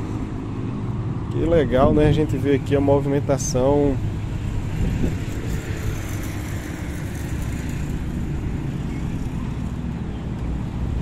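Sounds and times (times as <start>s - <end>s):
city road traffic rumble: 0.0s - 11.0s.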